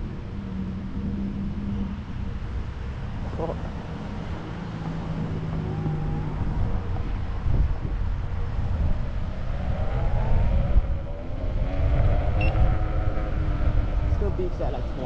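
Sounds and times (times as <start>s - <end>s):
wind rumbling over microphone: 0.0s - 15.0s.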